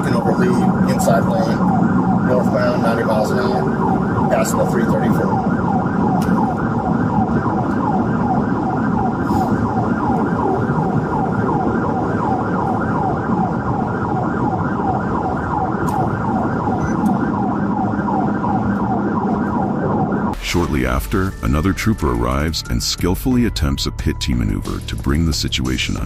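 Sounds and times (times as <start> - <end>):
police siren yelping: 0.0 - 21.2
car engine and road noise: 0.0 - 23.5.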